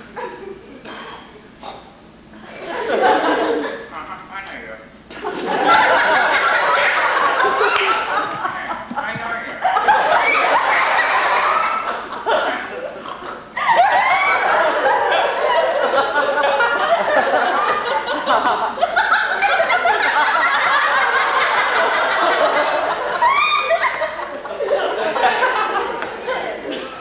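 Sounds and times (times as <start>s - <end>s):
audience laughing: 0.0s - 1.0s, 2.4s - 3.9s, 5.1s - 27.0s.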